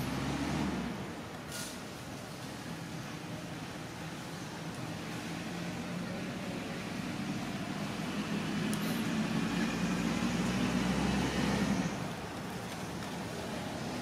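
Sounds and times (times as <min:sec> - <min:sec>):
low engine hum: 0:00.0 - 0:14.0
outdoor hiss: 0:00.0 - 0:14.0.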